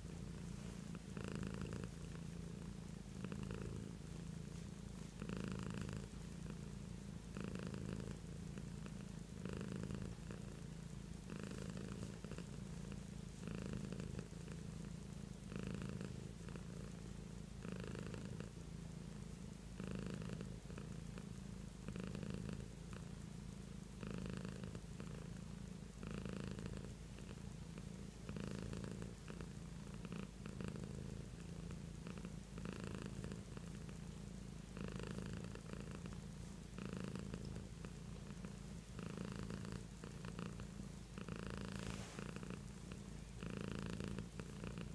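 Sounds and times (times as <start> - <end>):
cat purring: 0.0 - 44.9.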